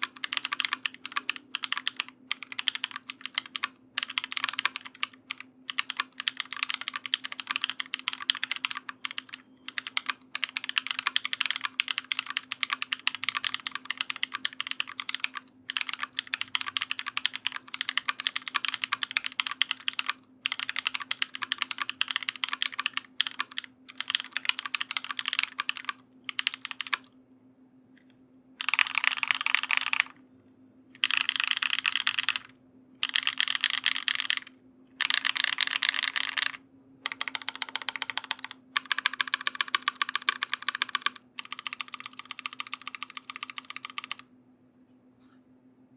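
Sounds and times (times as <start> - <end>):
mechanical keyboard typing: 0.0 - 27.1, 28.6 - 30.2, 31.0 - 44.3.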